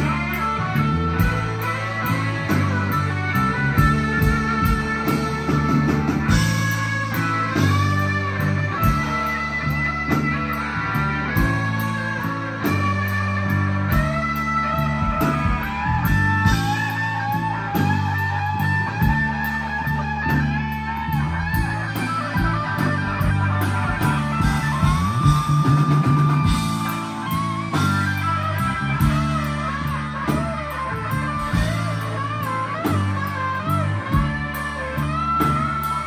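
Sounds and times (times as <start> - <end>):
bass guitar: 0.0 - 36.0
drums: 0.0 - 36.0
electric guitar lead: 0.0 - 36.0.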